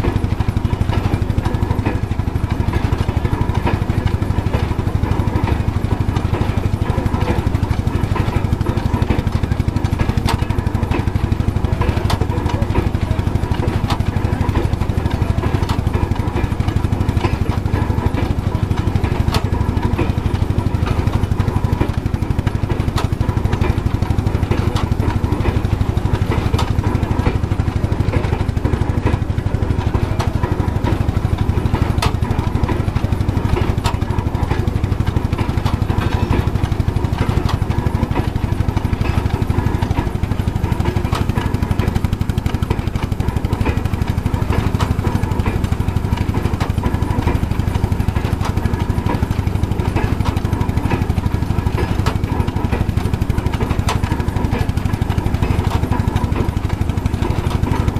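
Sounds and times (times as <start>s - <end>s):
engine beating fast: 0.0s - 57.9s
threshing machine running: 0.0s - 57.9s.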